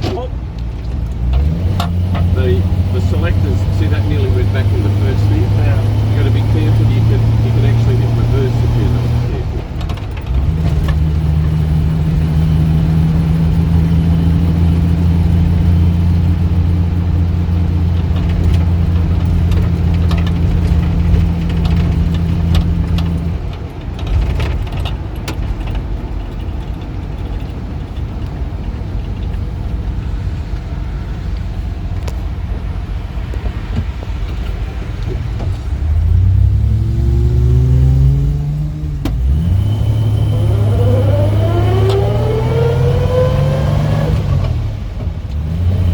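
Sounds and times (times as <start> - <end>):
car engine running and revving: 0.0 - 45.9.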